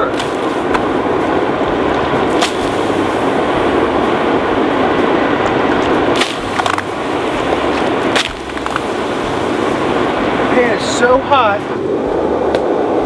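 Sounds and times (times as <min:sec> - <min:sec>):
charcoal crackling: 0:00.0 - 0:11.0
furnace blower rushing air and fire: 0:00.0 - 0:13.0.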